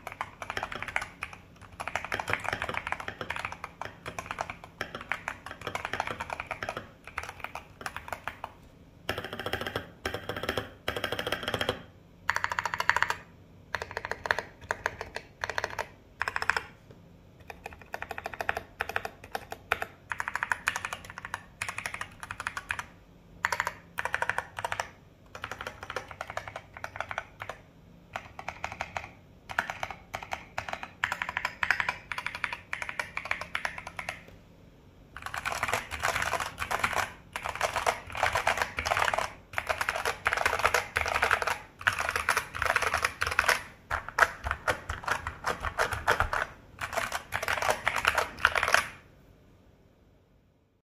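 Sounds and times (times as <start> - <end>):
mechanical keyboard typing: 0.0 - 16.8, 17.4 - 34.4, 35.2 - 49.1.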